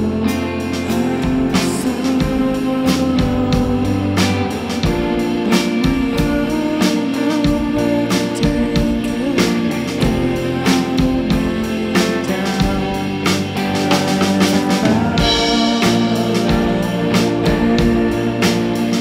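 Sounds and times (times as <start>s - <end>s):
drum kit beat: 0.0s - 19.0s
guitar chords: 0.0s - 19.0s.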